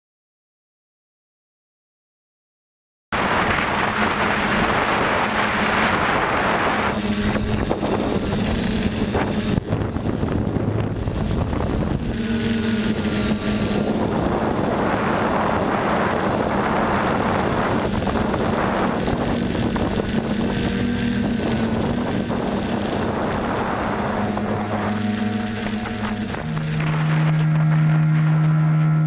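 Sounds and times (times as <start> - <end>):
drone motors whirring: 3.2 - 29.0
wind noise on microphone: 3.2 - 29.0.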